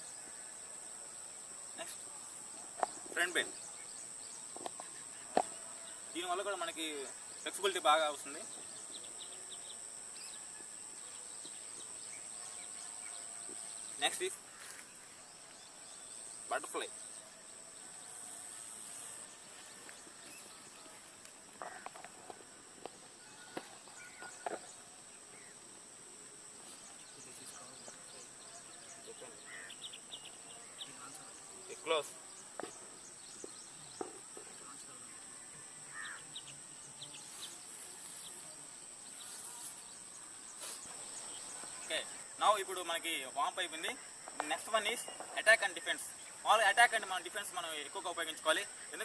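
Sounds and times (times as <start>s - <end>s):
high-pitched insect buzz: 1.1s - 28.1s, 28.7s - 42.5s.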